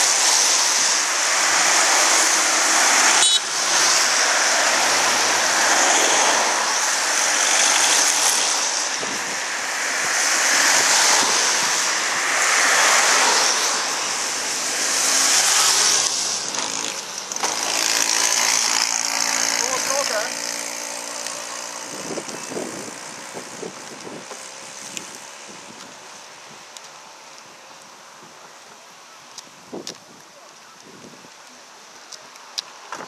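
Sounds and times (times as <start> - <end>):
cars passing by: 0.0 - 29.8.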